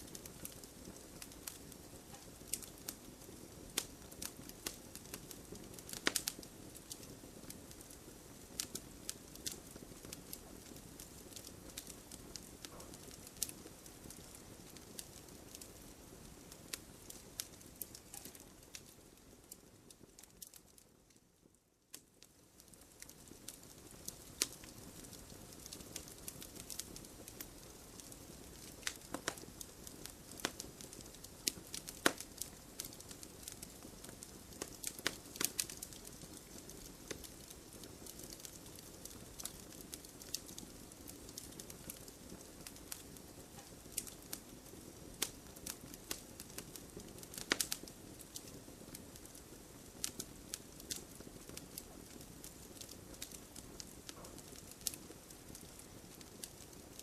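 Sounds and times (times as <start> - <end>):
fire crackling and popping: 0.0 - 57.0
wood fire hissing: 0.0 - 57.0.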